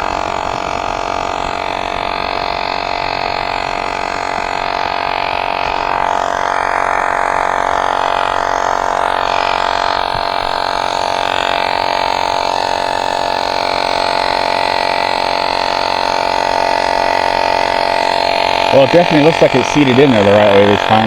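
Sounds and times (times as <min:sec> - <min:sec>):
air compressor buzzing: 0:00.0 - 0:21.0.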